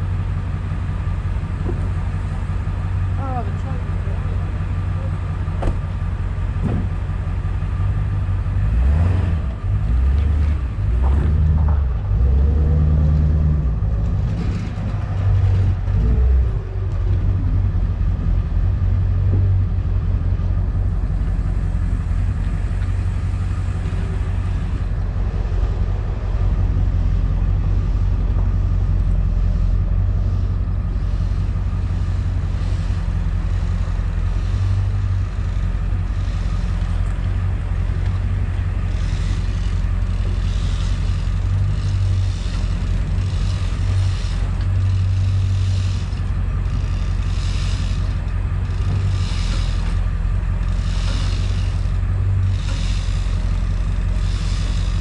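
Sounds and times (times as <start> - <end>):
pickup truck engine running: 0.0 - 55.0.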